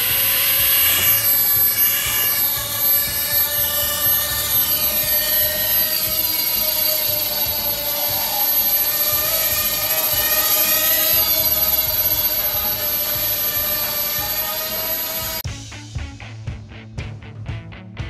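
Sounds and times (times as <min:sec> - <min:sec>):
quadcopter motors whining: 0:00.0 - 0:15.4.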